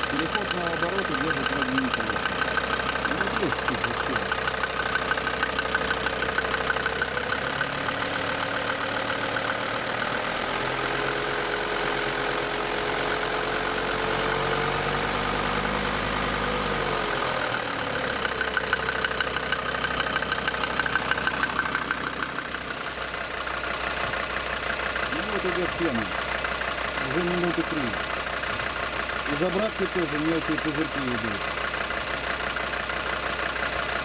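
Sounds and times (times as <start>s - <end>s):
diesel engine idling with knock: 0.0s - 34.0s.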